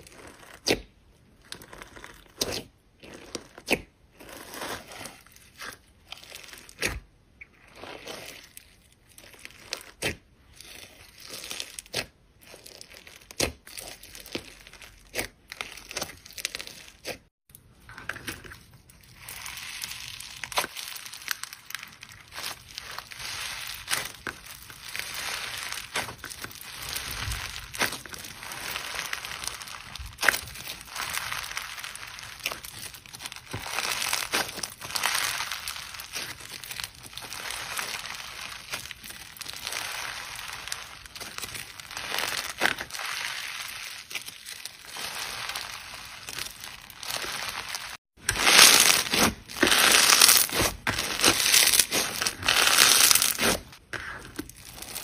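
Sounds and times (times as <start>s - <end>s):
crunchy slime crackling: 0.0s - 55.0s.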